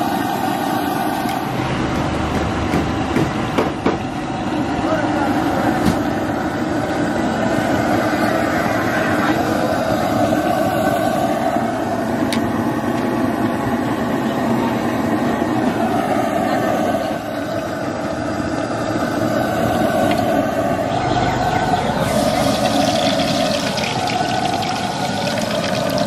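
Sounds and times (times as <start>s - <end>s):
steady mechanical rumble: 0.0s - 26.0s.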